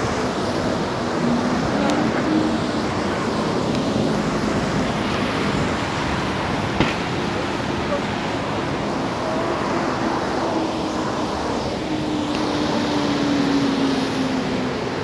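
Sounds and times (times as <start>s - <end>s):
tyres hissing on wet road: 0.0s - 15.0s
vehicle engine hum: 0.0s - 15.0s.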